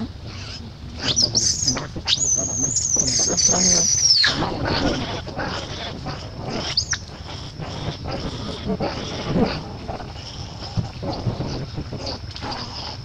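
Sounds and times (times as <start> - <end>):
high-pitched animal call: 0.0 - 13.0.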